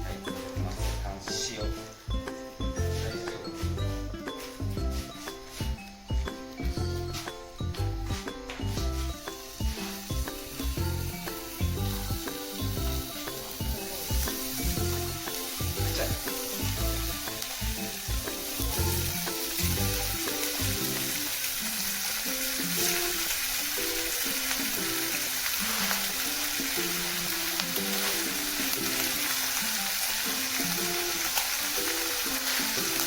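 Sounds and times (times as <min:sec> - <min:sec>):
background music melody: 0:00.0 - 0:33.0
food sizzling in frying: 0:00.0 - 0:33.0.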